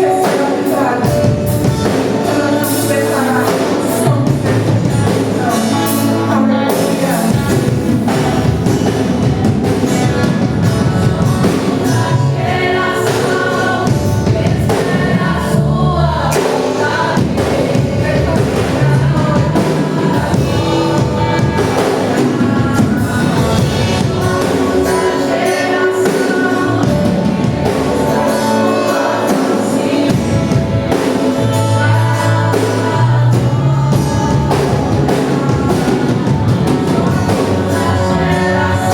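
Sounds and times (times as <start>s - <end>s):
worship band with singers: 0.0s - 38.9s.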